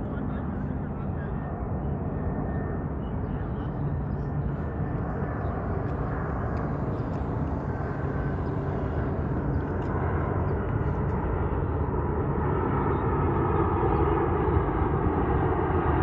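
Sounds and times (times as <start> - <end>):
jet aircraft engine rumble: 0.0 - 13.2.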